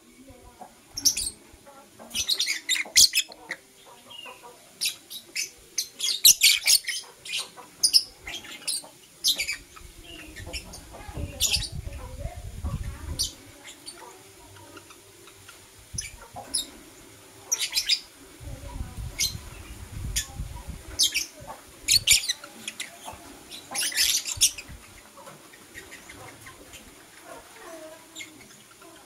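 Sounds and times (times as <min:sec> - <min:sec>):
lovebirds chirping: 0:00.2 - 0:29.0.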